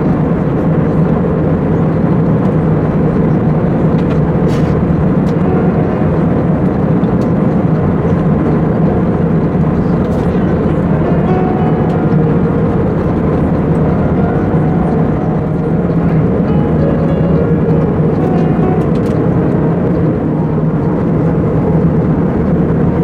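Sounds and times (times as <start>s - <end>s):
airplane cabin noise: 0.0s - 23.0s.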